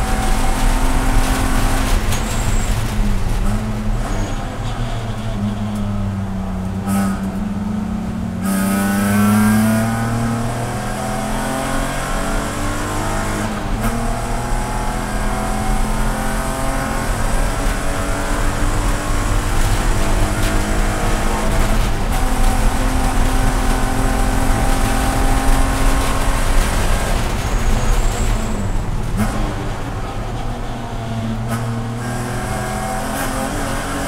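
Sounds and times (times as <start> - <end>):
race car engine accelerating: 6.7 - 34.0.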